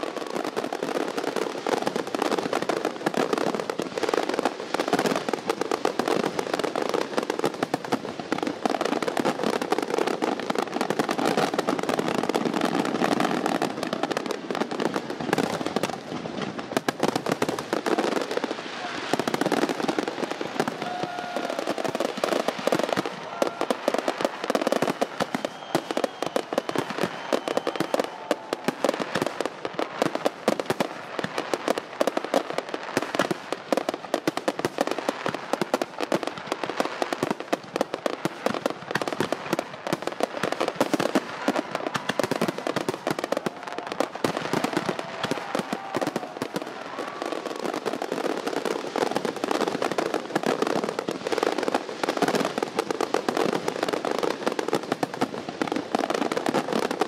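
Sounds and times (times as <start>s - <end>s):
fireworks crackling and popping: 0.0s - 57.0s.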